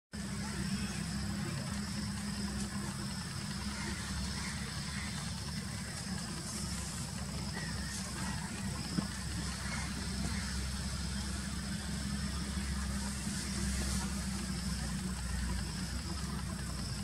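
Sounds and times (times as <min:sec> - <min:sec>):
distant jet engines rumbling: 0:00.2 - 0:17.0.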